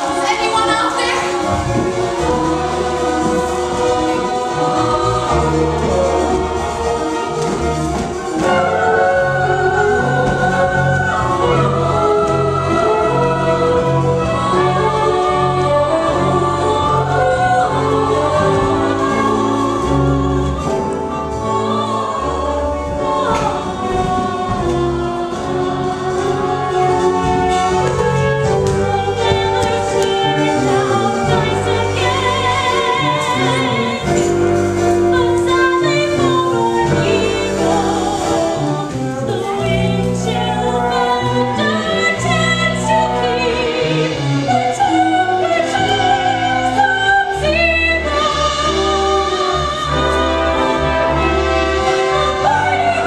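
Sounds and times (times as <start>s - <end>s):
instrumental accompaniment: 0.0s - 53.0s
person singing with vibrato: 0.0s - 53.0s
several voices singing: 0.0s - 53.0s.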